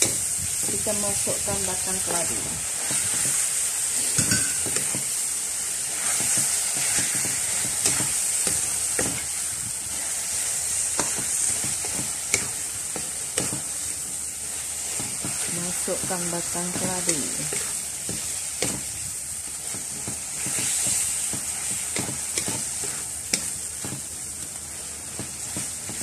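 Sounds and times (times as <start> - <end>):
food sizzling in oil: 0.0 - 26.0
wooden spatula scraping wok: 0.0 - 26.0.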